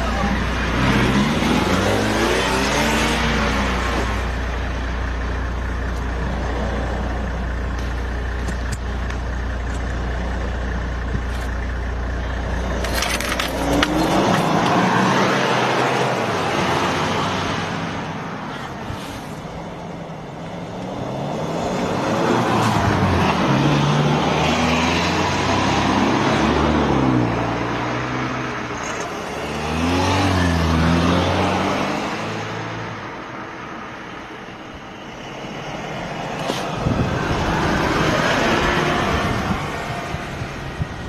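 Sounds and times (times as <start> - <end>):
vehicle engine revving: 0.0 - 19.6, 20.7 - 32.8, 36.4 - 41.0.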